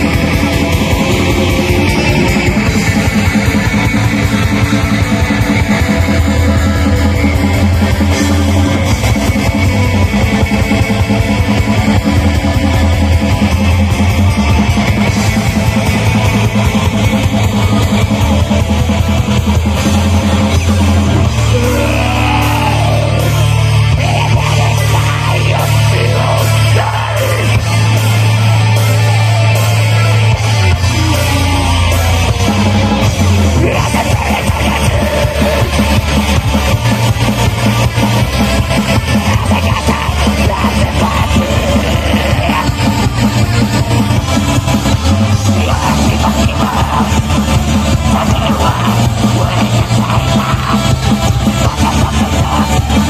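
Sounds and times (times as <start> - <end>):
metal band playing live: 0.0 - 53.0.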